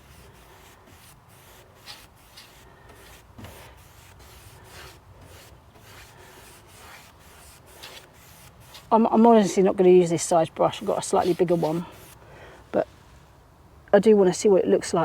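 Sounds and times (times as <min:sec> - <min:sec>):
paintbrush brushing on wood: 0:00.0 - 0:12.2.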